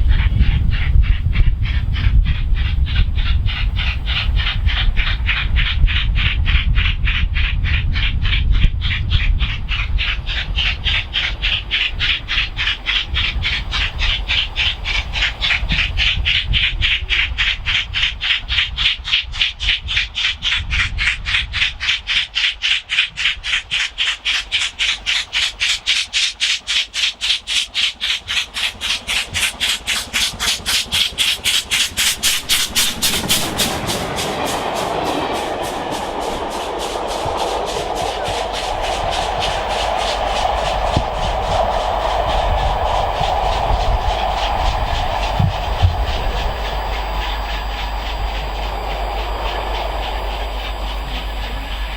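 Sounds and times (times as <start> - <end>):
steam locomotive chuffing: 0.0 - 51.9
train wheels rushing on rails: 0.0 - 51.9.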